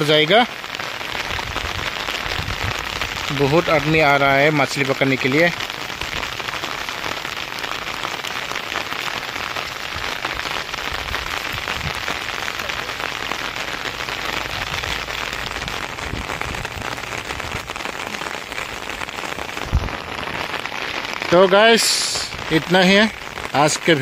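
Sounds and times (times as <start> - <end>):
heavy rain on water: 0.0 - 24.0.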